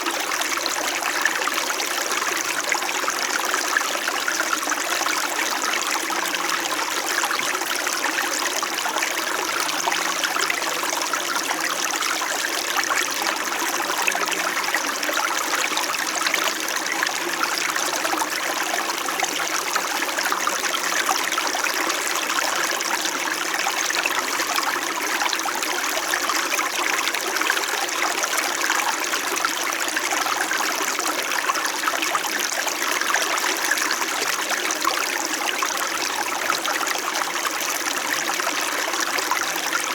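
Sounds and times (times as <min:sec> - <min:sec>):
stream burbling over rocks: 0:00.0 - 0:39.9.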